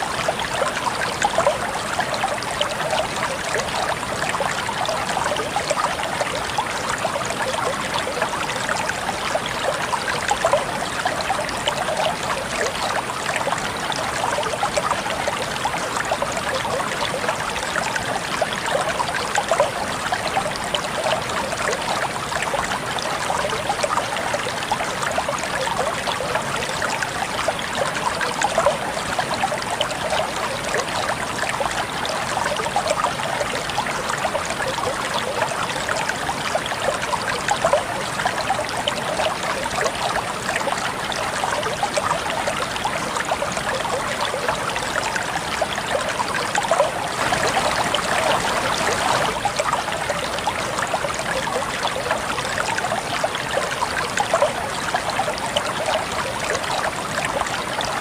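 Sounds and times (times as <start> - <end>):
flowing water splashing: 0.0 - 58.0.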